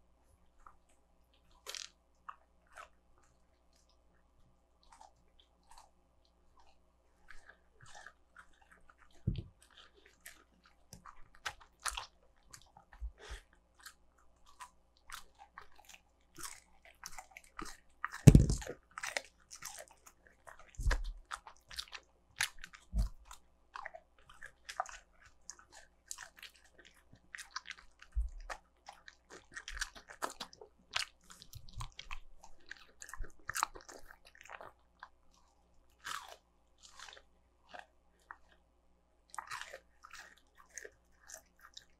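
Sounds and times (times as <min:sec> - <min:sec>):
dog chewing crunchy chicken: 0:00.5 - 0:41.9.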